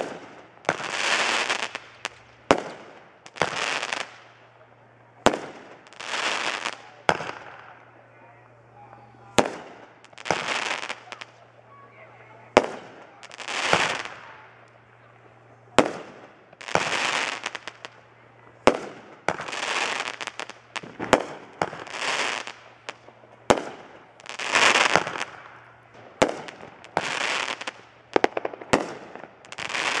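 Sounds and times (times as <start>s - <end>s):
fireworks banging: 0.0s - 30.0s
fireworks hissing crackle: 0.0s - 30.0s.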